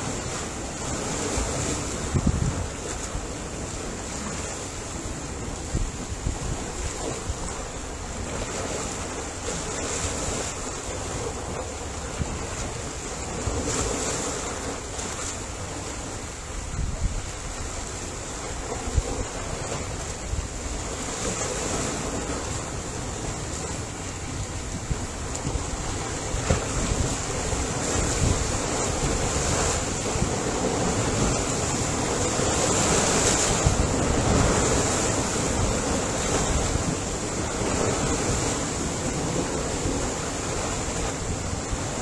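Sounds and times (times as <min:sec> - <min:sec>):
wind buffeting microphone: 0:00.0 - 0:15.2, 0:15.8 - 0:42.0
ocean surf washing: 0:00.0 - 0:42.0.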